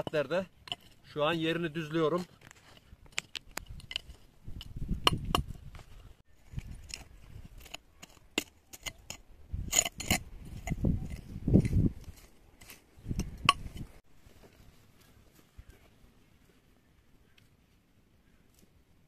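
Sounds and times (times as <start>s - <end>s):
hand tool scraping stony ground: 0.0s - 16.0s.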